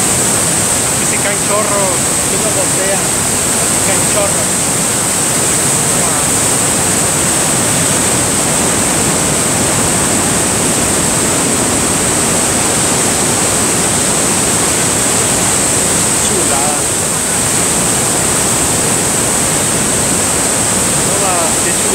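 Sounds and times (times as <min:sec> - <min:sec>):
waterfall roaring onto rocks: 0:00.0 - 0:21.9.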